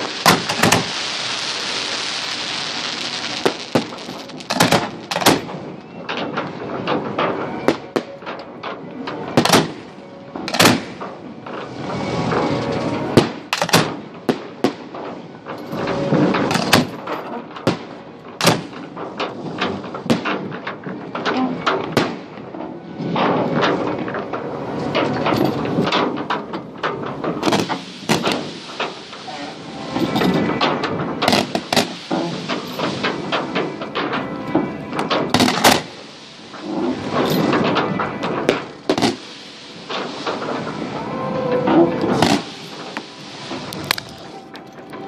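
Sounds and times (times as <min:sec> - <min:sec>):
firework shells bursting: 0:00.0 - 0:41.0, 0:42.0 - 0:45.0
fireworks crackle and rumble: 0:00.0 - 0:45.0.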